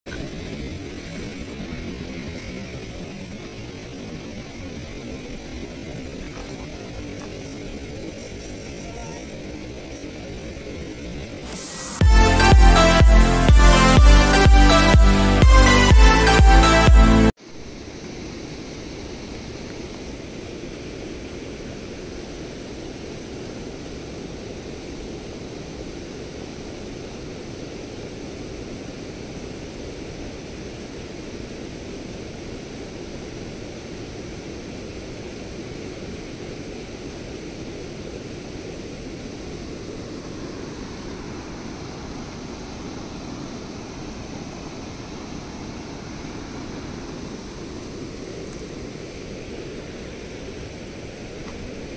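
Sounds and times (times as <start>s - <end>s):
steady outdoor rushing noise: 0.1s - 51.9s.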